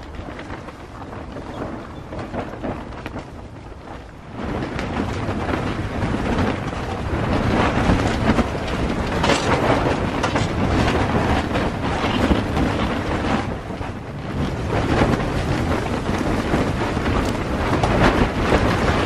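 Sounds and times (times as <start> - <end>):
tent fabric flapping: 0.0 - 19.0
wind gusts buffeting tent: 0.0 - 19.0.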